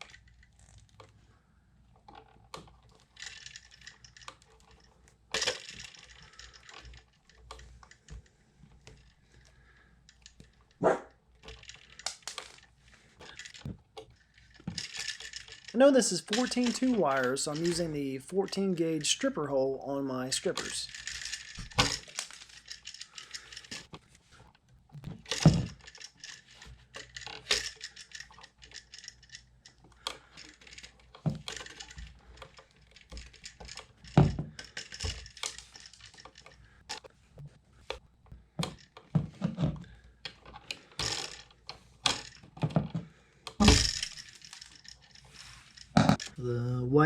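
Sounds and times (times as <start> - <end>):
wire strippers clicking and snapping: 2.0 - 46.4.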